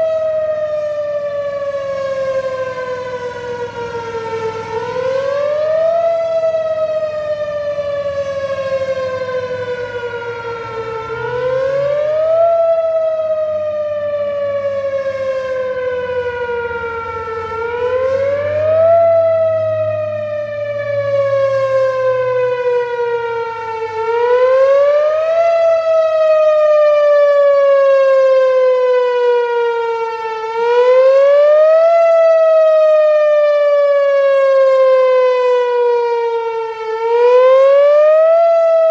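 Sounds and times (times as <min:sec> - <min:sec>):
wailing warning siren: 0:00.0 - 0:38.9.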